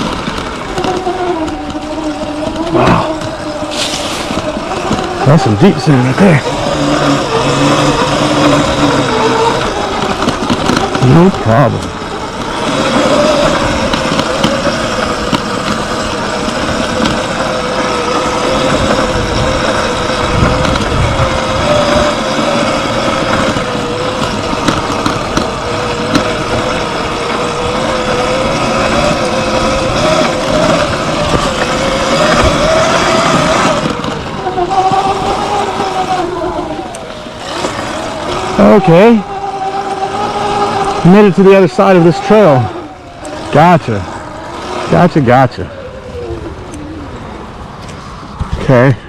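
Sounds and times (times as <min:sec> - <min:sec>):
tyre noise on sand: 0:00.0 - 0:11.3, 0:12.0 - 0:41.0
electric motor whine: 0:00.0 - 0:49.0
wind: 0:00.0 - 0:49.0.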